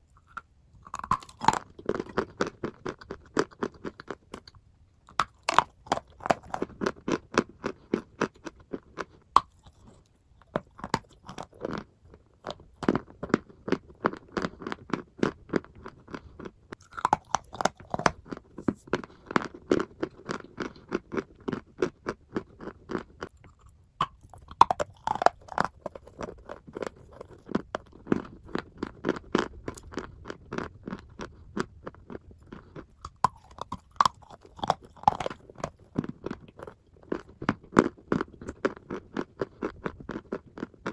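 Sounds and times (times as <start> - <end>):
chalk crunching and chewing: 0.0 - 40.9.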